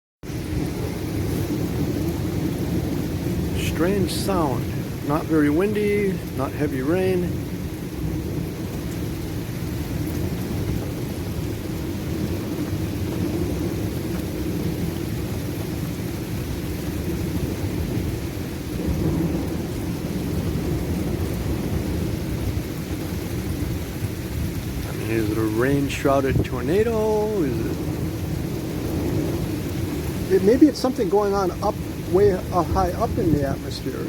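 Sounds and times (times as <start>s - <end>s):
deep roaring thunder rumble: 0.2s - 34.0s
light rain: 0.2s - 34.0s.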